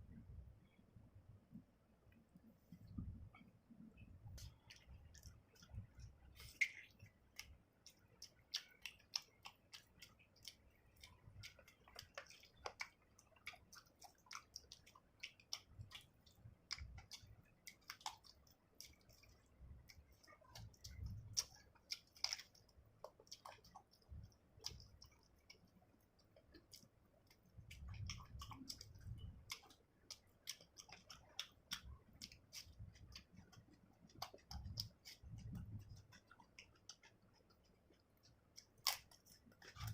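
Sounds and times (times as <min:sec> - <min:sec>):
person chewing food: 0:02.1 - 0:39.9.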